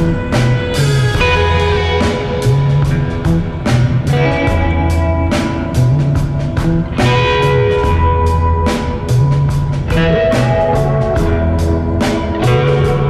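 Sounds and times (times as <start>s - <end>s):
guitar-led background music: 0.0s - 13.0s.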